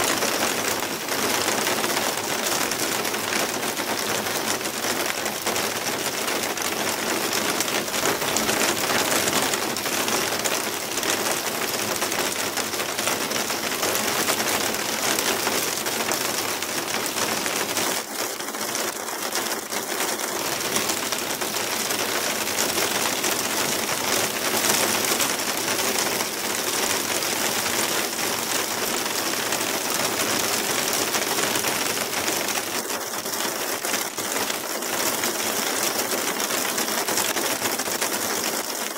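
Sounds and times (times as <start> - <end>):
hail and rain on tiled roofs: 0.0 - 38.9.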